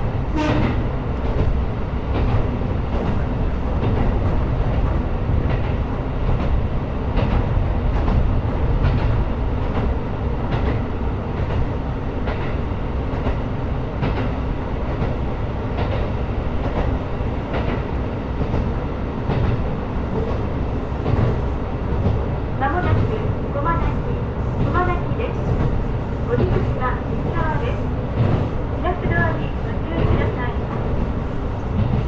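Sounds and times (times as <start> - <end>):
train engine rumbling: 0.0 - 32.0.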